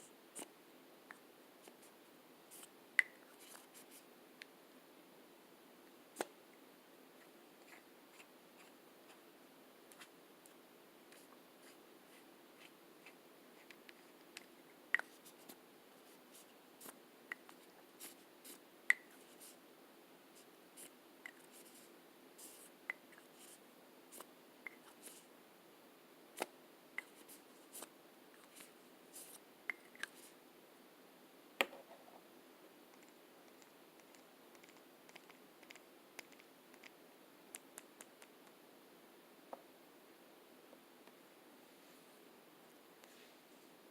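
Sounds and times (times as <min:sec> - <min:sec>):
faint hiss: 0:00.0 - 0:43.9.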